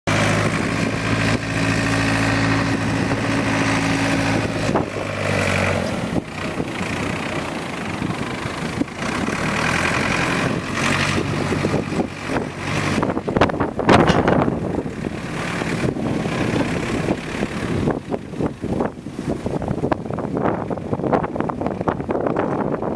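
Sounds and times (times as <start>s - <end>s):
diesel engine running: 0.1s - 22.9s.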